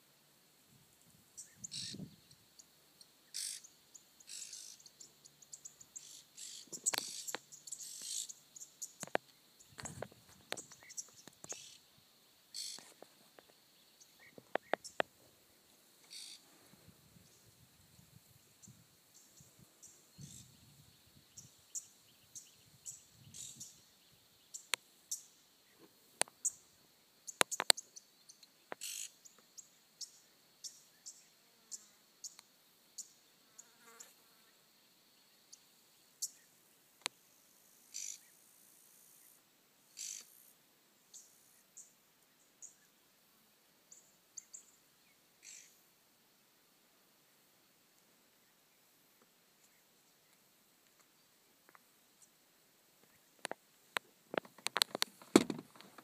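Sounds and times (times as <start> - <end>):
faint insect buzz: 0.0 - 56.0.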